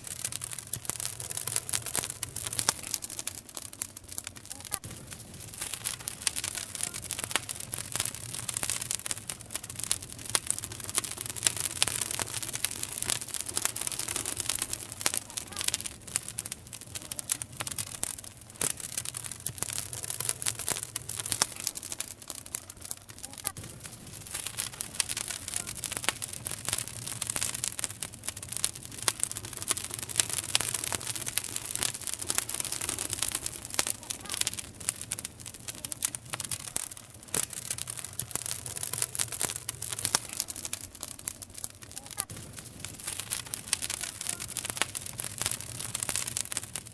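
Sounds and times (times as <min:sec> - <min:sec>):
campfire wood crackling and popping: 0:00.0 - 0:46.9
steady fire hiss: 0:00.0 - 0:46.9.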